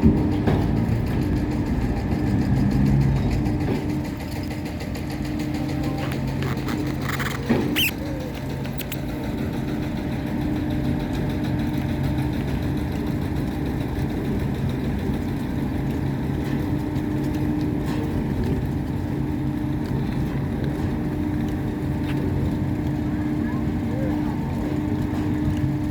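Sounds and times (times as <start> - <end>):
boat engine humming: 0.0 - 25.9
water noise: 0.0 - 25.9.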